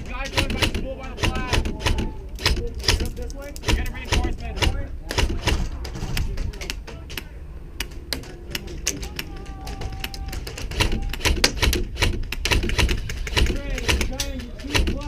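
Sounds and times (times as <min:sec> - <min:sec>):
airsoft guns firing: 0:00.0 - 0:15.0
distant voices: 0:00.0 - 0:15.0.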